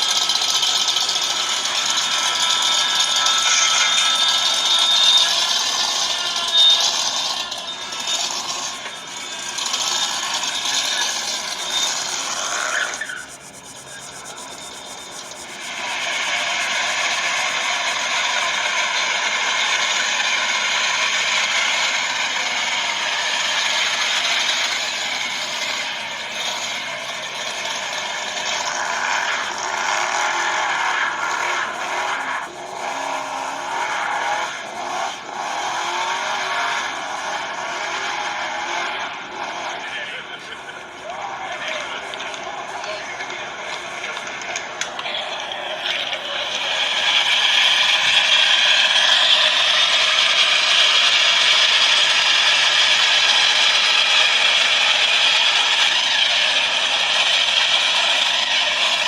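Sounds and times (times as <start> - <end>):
car engines running: 0.0 - 59.0.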